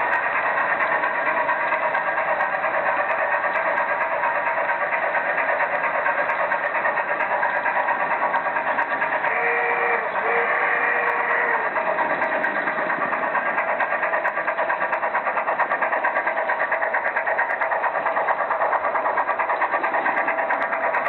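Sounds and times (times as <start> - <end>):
model train motors whirring: 0.0 - 21.0.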